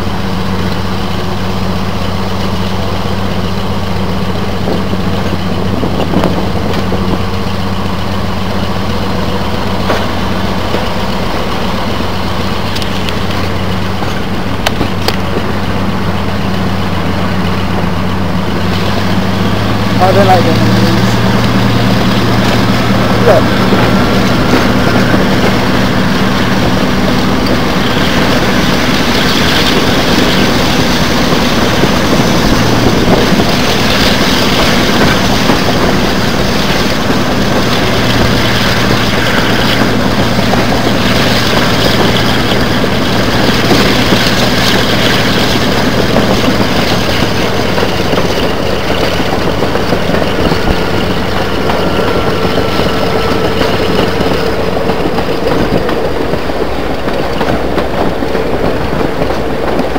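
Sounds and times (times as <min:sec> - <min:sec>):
diesel engine drone: 0:00.0 - 0:59.9
rush of wind and wheels on rail: 0:00.0 - 0:59.9.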